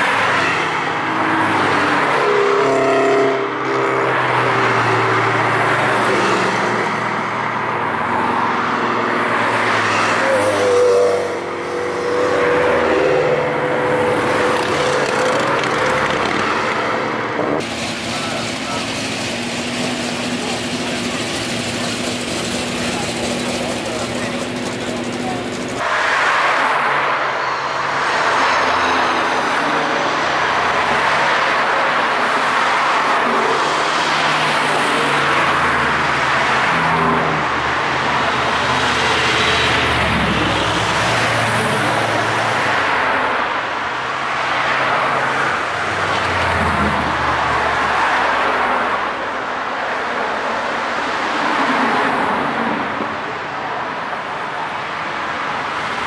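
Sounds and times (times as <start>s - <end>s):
cars driving past: 0.0s - 56.0s
tyre and road noise: 0.0s - 56.0s.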